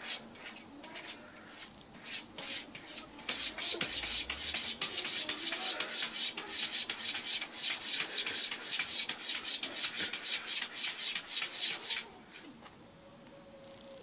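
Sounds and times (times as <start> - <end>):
cat claws scratching wood: 0.0 - 12.5.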